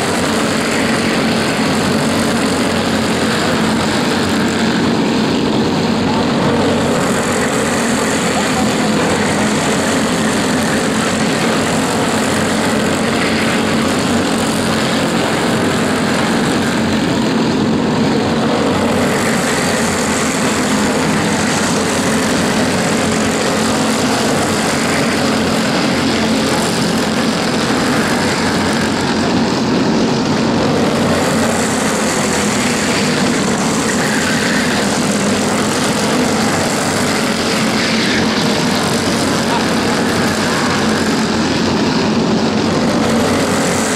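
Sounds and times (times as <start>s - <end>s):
go-kart engines running: 0.0s - 43.9s.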